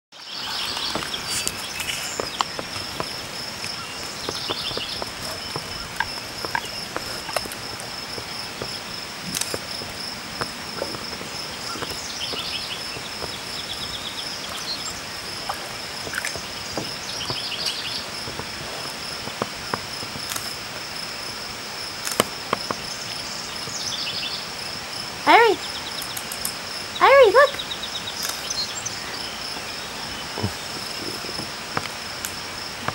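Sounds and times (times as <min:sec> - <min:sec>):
cricket trilling: 0:00.2 - 0:32.9.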